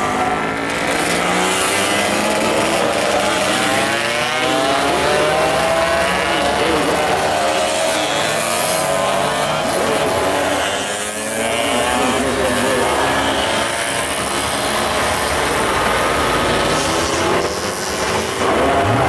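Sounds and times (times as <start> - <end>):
racing motorcycles buzzing past: 0.0 - 19.0.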